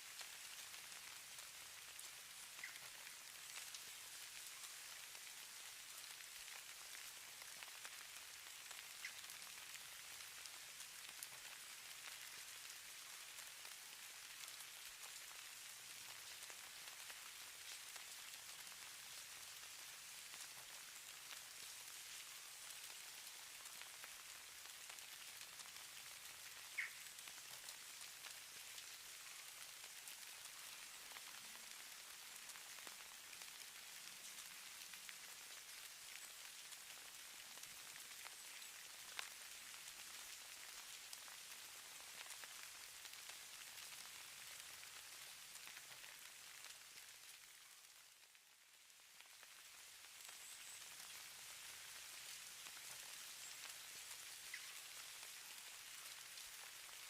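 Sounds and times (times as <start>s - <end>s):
hiss of falling snow: 0.0s - 57.0s
light rain pattering: 0.0s - 57.0s.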